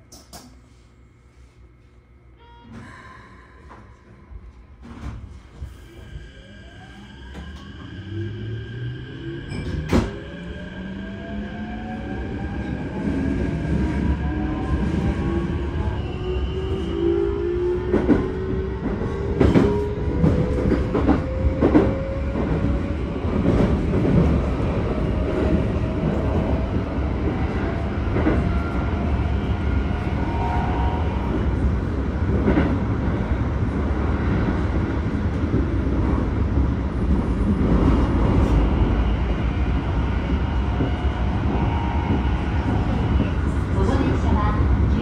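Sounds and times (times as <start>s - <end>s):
train wheels rumbling on rails: 7.2s - 45.0s.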